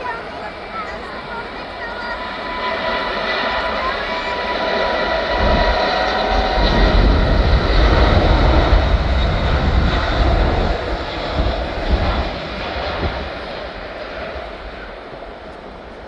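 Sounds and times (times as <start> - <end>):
jet engines at takeoff: 0.0 - 16.0.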